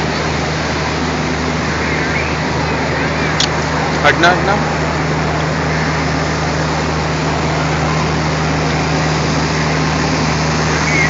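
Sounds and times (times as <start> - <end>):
diesel locomotive engine droning: 0.0 - 11.0.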